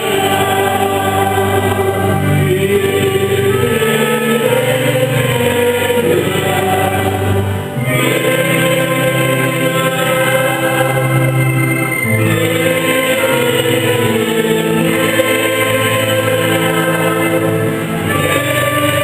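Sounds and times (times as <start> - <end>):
choir singing a hymn: 0.0 - 19.0.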